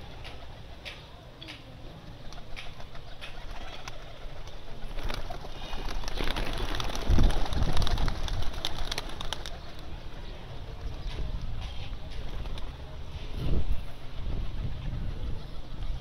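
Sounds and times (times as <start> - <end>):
wings clapping and flapping: 0.0 - 13.0
pigeons cooing: 0.0 - 16.0.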